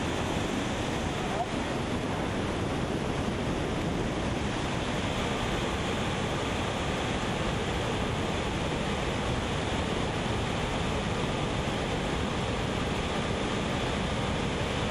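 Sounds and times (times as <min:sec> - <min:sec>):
river water pouring over dam: 0:00.0 - 0:14.9.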